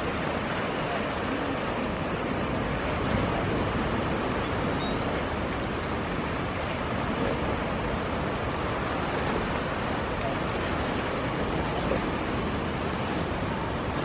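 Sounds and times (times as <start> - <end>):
ocean surf: 0.0 - 14.0.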